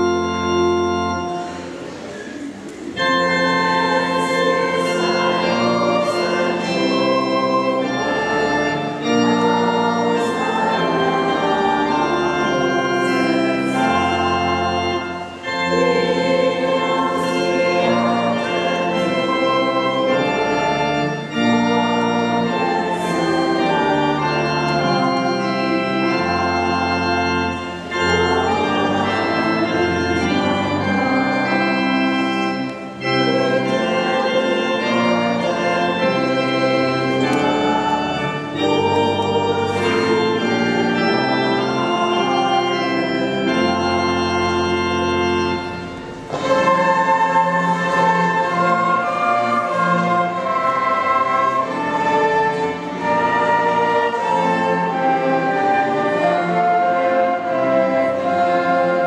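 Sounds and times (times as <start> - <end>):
orchestra playing slow hymn-like piece: 0.0 - 59.0.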